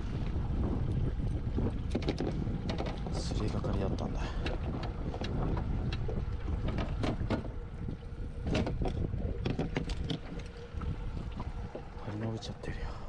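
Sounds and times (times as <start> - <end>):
water slapping boat hull: 0.0 - 12.8
wind buffeting microphone: 0.0 - 13.0.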